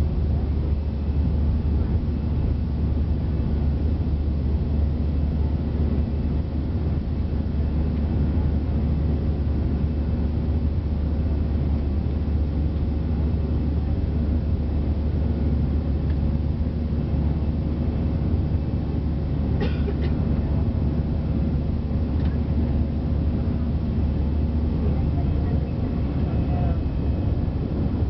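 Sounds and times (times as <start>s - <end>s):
faint steady hum: 0.0s - 28.0s
jet engine roar in cabin: 0.0s - 28.0s.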